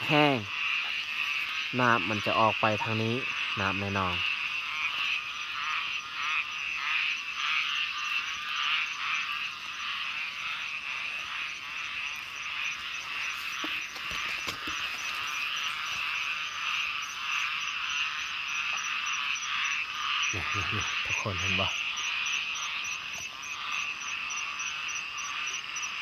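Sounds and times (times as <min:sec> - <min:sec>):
frogs croaking chorus: 0:00.0 - 0:26.0.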